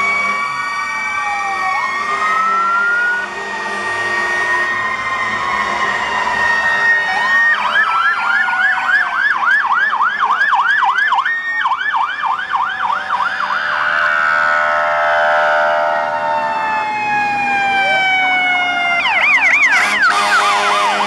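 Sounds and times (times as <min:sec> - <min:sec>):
fire truck siren: 0:00.0 - 0:21.0.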